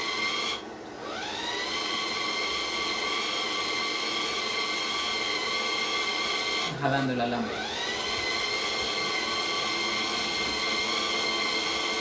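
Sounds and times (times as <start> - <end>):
wire-feed motor whining: 0.0 - 12.0.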